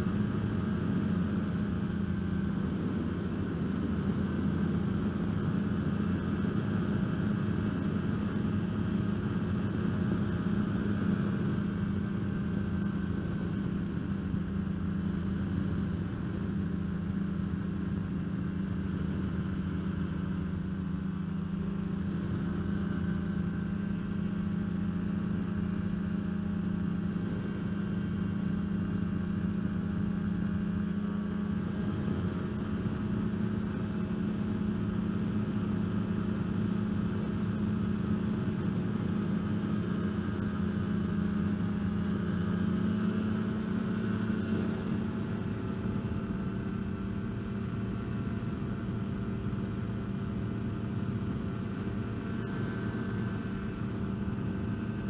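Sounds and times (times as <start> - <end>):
ultralight engine droning: 0.0 - 55.0.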